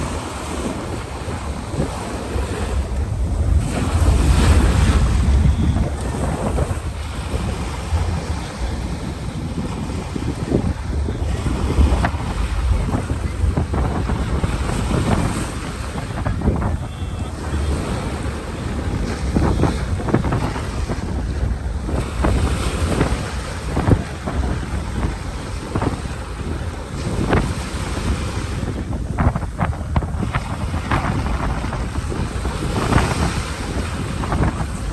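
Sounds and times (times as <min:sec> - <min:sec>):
ocean waves breaking: 0:00.0 - 0:34.9
wind on microphone: 0:00.0 - 0:34.9.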